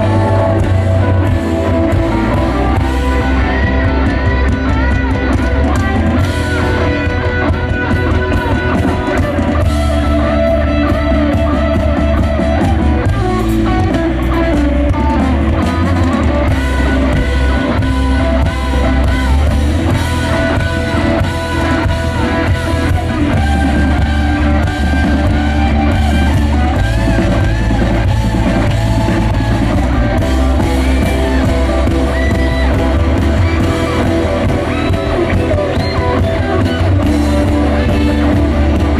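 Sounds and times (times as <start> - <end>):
live rock band playing loud: 0.0 - 38.9.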